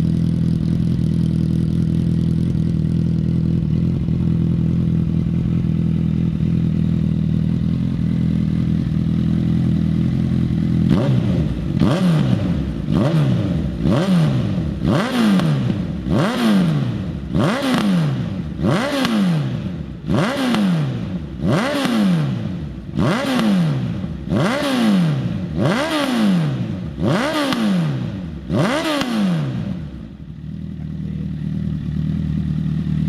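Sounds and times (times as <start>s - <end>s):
motorcycle engine idling: 0.0s - 24.6s, 25.2s - 33.0s
motorcycle engine revving: 0.0s - 33.0s.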